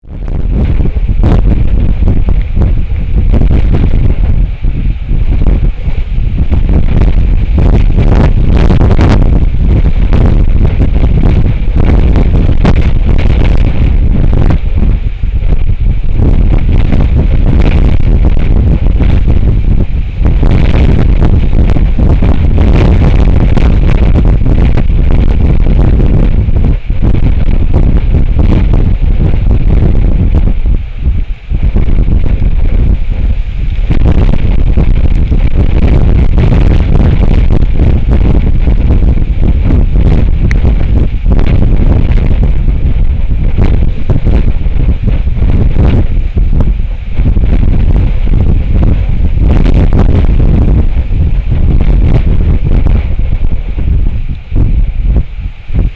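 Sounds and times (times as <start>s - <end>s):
gusty wind buffeting microphone: 0.0s - 55.9s.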